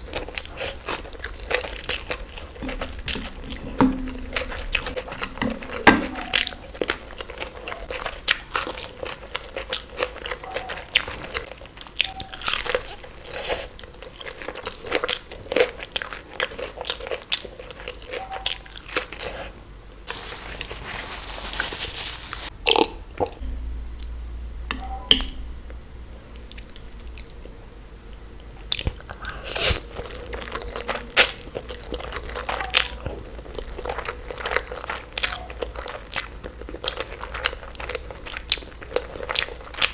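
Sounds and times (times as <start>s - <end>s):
crunchy chewing: 0.0s - 20.7s, 28.6s - 39.9s.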